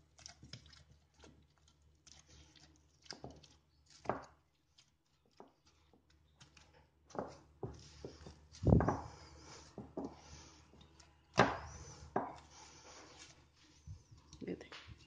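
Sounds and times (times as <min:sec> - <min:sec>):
dough squishing: 0:00.0 - 0:15.0.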